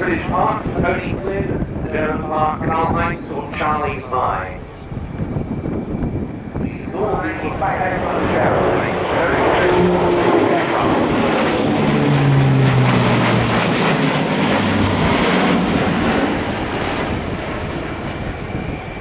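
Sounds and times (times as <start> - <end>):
turboprop aircraft droning: 0.0 - 19.0.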